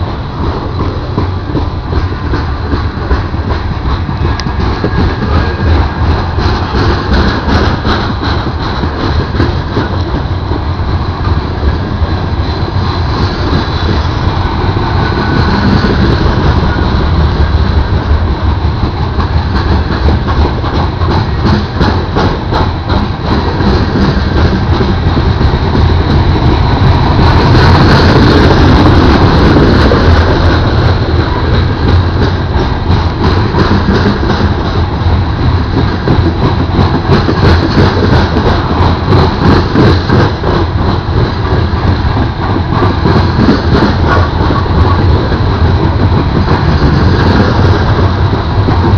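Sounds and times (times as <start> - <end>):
freight train rumbling past: 0.0 - 48.9
wheels clicking over rail joints: 0.0 - 48.9.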